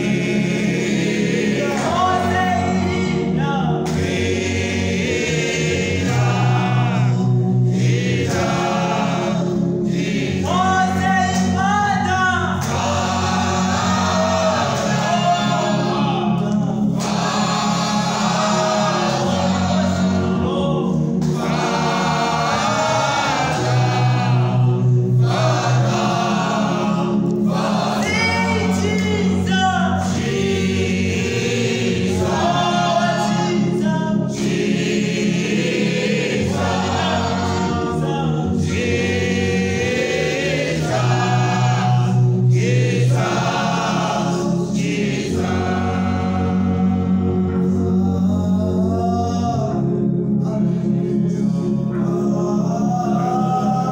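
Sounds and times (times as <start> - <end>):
gospel choir singing: 0.0 - 53.9
low held bass notes: 0.0 - 53.9.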